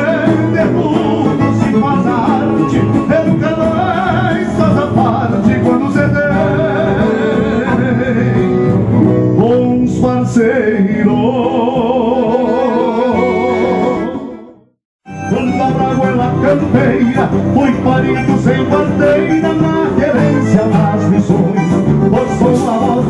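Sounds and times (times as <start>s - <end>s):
acoustic guitars: 0.0s - 14.3s, 15.1s - 23.0s.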